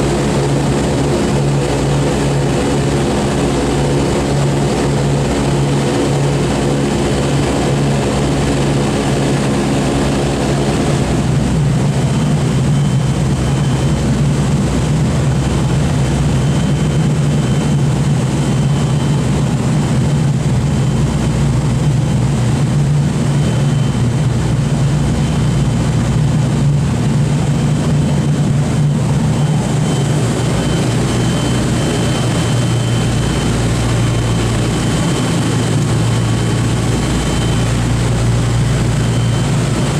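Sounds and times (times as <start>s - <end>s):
propeller aircraft engines running: 0.0s - 39.9s.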